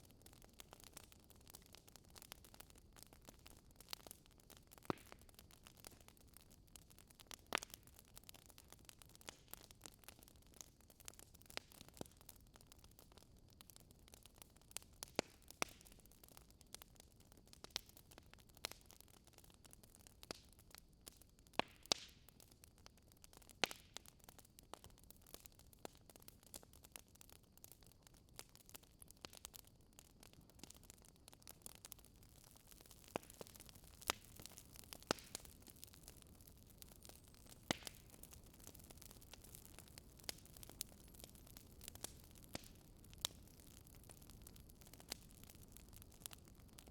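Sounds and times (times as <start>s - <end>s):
fireplace fire crackling: 0.0s - 46.9s.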